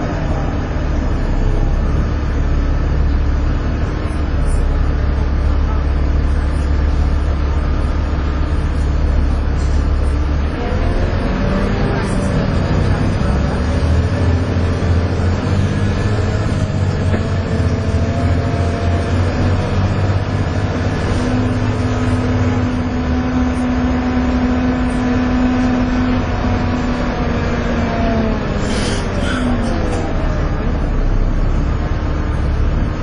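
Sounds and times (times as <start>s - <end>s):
bus engine droning and whining: 0.0s - 33.0s.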